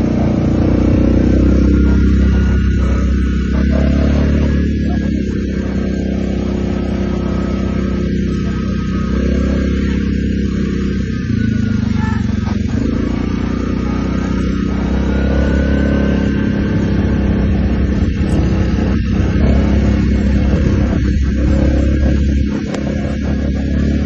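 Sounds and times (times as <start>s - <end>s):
quad bike engine droning: 0.0s - 24.0s.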